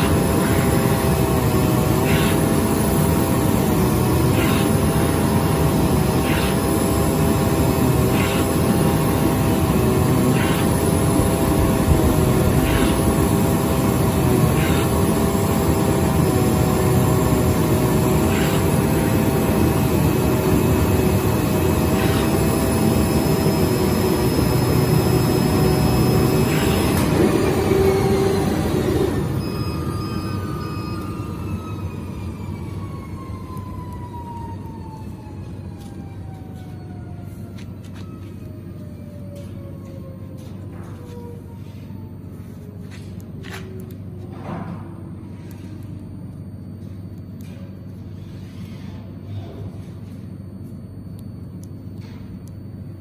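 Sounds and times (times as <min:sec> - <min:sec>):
cutting machine mechanical drone: 0:00.0 - 0:53.0.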